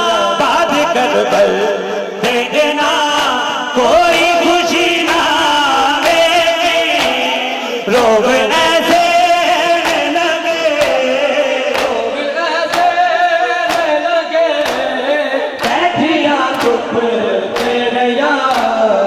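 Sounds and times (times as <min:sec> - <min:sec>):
men chanting a lament: 0:00.0 - 0:19.0
crowd beating chests: 0:01.4 - 0:19.0.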